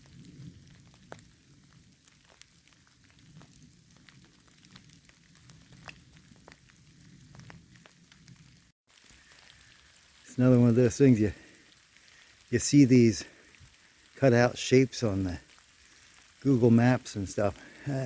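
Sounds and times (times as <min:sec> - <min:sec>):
raindrops ticking: 0:00.0 - 0:18.0.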